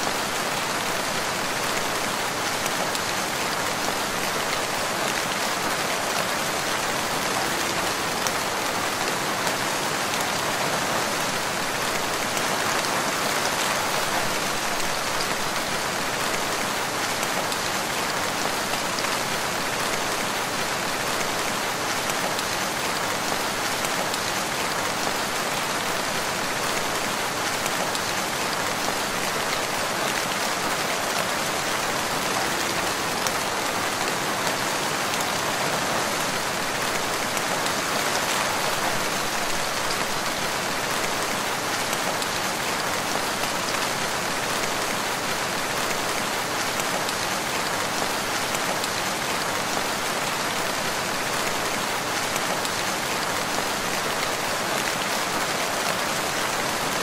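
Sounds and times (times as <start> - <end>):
steady rain in a forest: 0.0 - 57.0.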